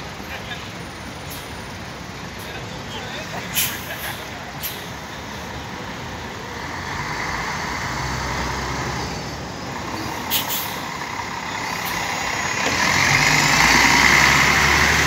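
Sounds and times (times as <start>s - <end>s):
bus diesel engine passing: 0.0s - 15.0s.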